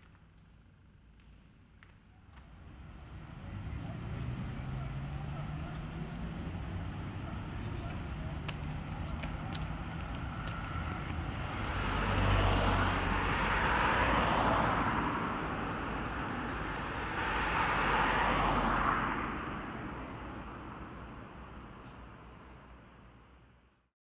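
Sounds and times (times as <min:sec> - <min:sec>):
low traffic rumble: 0:00.0 - 0:23.8
cars passing: 0:02.5 - 0:23.6.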